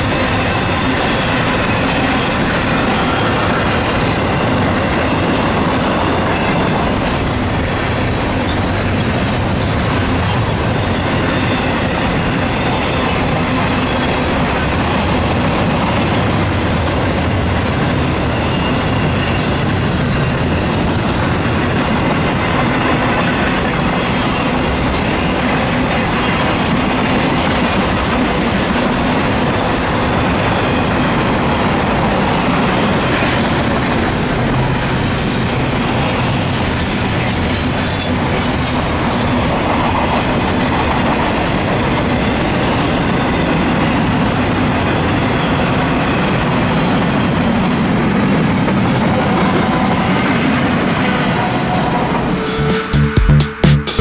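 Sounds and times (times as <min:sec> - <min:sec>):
steel wheels rolling on rails: 0:00.0 - 0:52.2.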